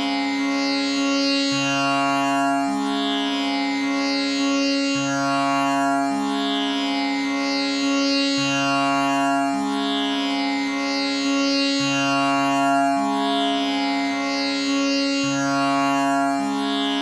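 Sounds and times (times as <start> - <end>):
tanpura drone: 0.0 - 17.0.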